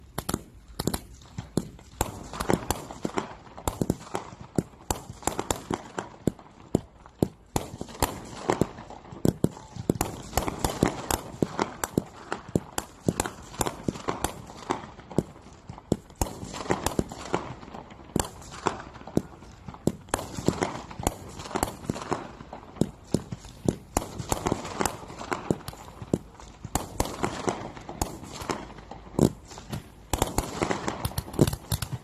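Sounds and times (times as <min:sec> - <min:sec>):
firework pops and bangs: 0:00.0 - 0:32.0.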